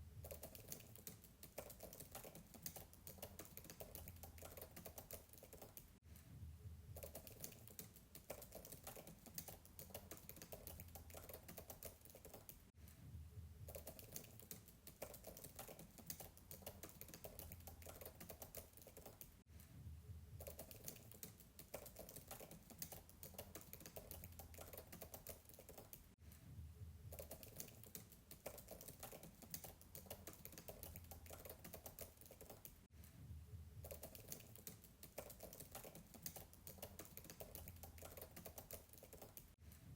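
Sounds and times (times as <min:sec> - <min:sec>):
faint laptop keyboard typing: 0:00.1 - 0:06.0, 0:06.9 - 0:12.7, 0:13.6 - 0:19.7, 0:20.3 - 0:26.4, 0:27.0 - 0:33.2, 0:33.8 - 0:39.9.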